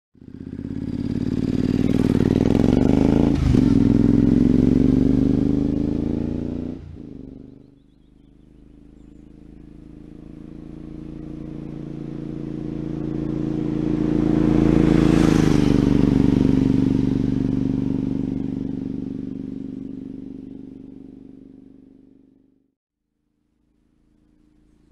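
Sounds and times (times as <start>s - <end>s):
motorcycle engine passing: 0.2s - 22.4s.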